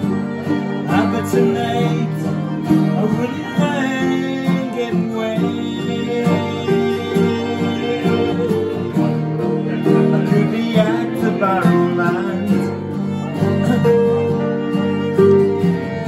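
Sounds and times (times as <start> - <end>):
strummed acoustic guitars: 0.0 - 16.0.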